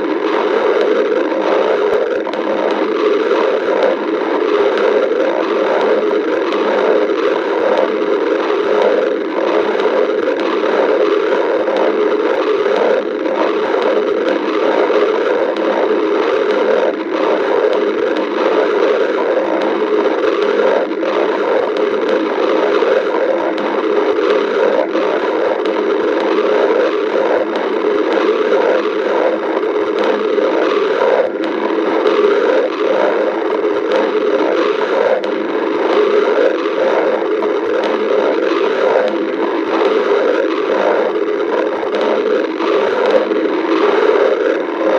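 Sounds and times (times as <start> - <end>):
stomach growling: 0.0 - 44.9.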